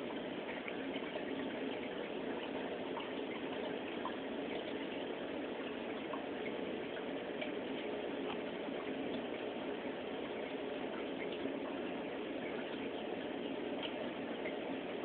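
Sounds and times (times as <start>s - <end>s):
aquarium water bubbling and trickling: 0.0s - 15.0s.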